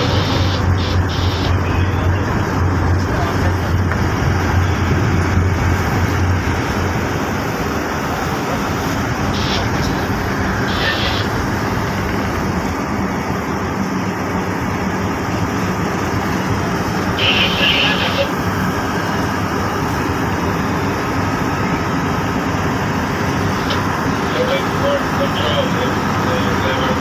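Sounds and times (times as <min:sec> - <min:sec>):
boat engine running: 0:00.0 - 0:27.0
water rushing along hull: 0:00.0 - 0:27.0.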